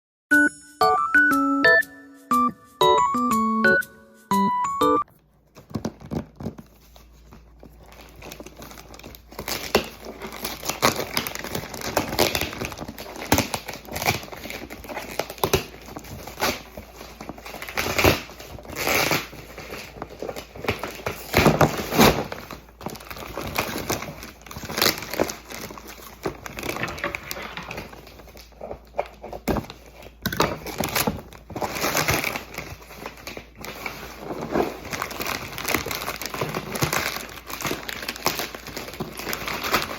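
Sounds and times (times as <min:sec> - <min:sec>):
packaging crinkling: 0:05.5 - 0:39.9
packaging tearing: 0:07.5 - 0:39.9.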